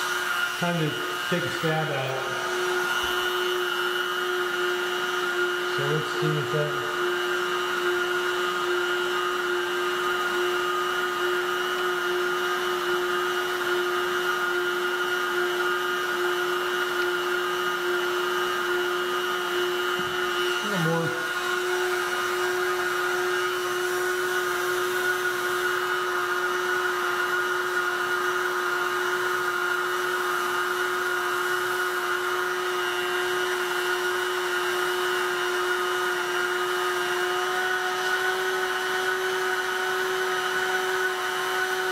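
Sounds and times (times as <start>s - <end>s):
heat gun fan whine: 0.0s - 41.9s.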